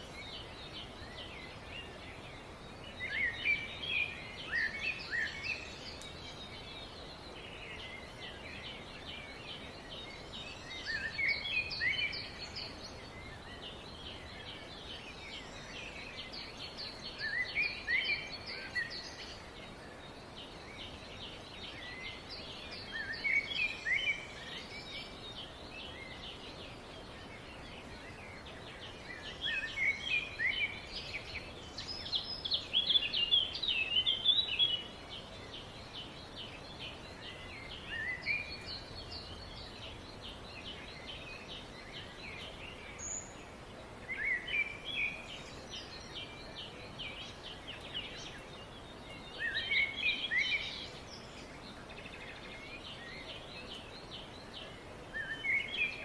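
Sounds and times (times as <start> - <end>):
faint bird twittering: 0.0 - 56.0.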